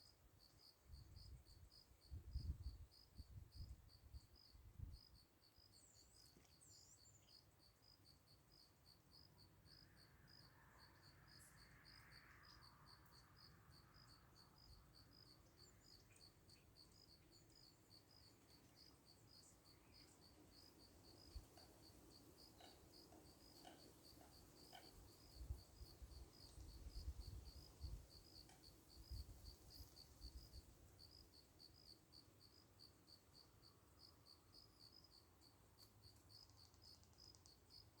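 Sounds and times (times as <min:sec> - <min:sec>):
faint cricket chirping: 0:00.0 - 0:38.0.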